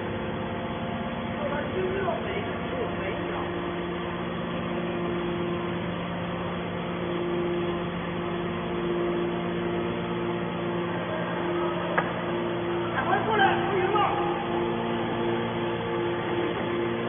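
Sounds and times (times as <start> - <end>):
baler motor and pump hum: 0.0 - 17.0
higher machine tone: 0.0 - 17.0.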